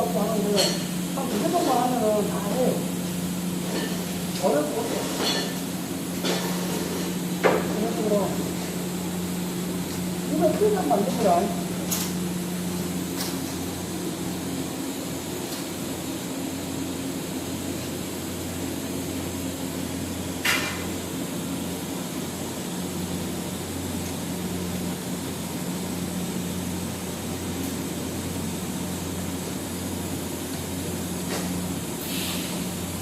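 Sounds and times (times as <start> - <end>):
welding hum and hiss: 0.0 - 33.0.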